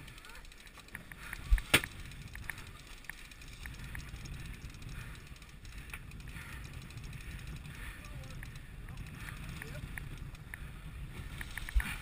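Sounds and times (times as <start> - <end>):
light clicks and rattles: 0.0 - 12.0
water noise: 0.0 - 12.0
wind: 0.0 - 12.0.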